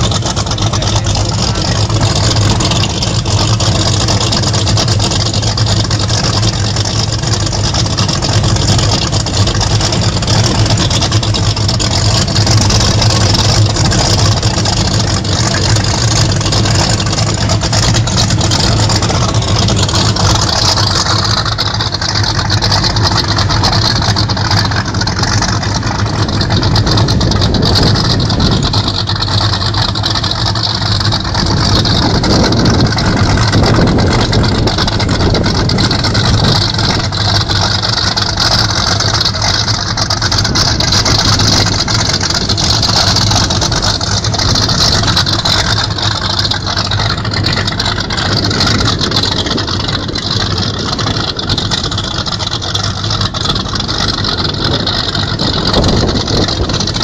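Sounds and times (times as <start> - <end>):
motorboat engines humming: 0.0 - 57.0
rush of wind and water: 0.0 - 57.0.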